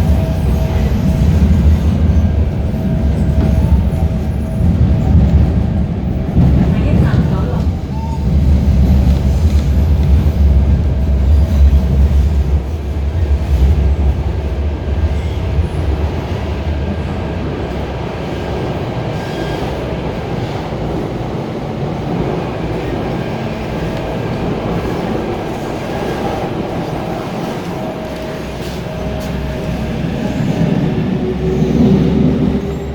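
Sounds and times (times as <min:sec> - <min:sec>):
train running rumble: 0:00.0 - 0:32.9.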